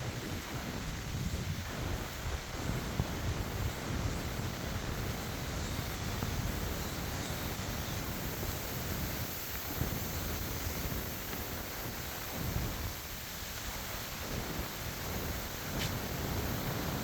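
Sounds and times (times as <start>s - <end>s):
rain hissing: 0.0s - 17.0s
wind buffeting microphone: 0.0s - 17.0s.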